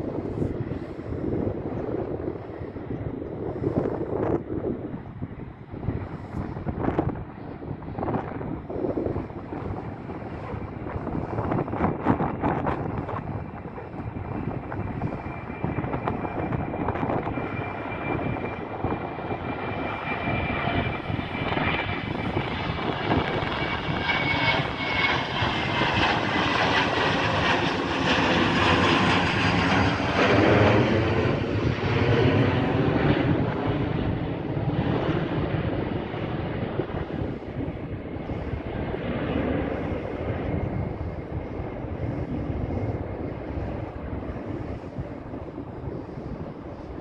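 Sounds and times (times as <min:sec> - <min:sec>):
jet engines rushing overhead: 0:00.0 - 0:47.0.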